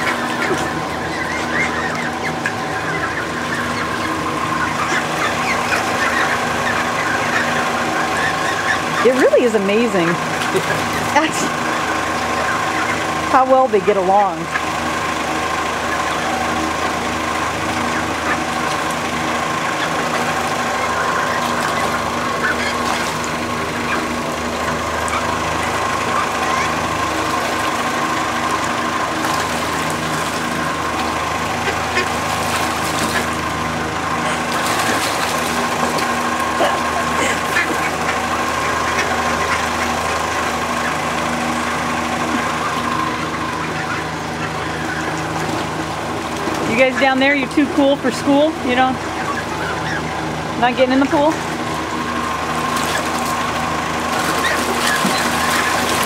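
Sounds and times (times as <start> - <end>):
ducks quacking: 0.0 - 56.0
steady machine hum: 0.0 - 56.0.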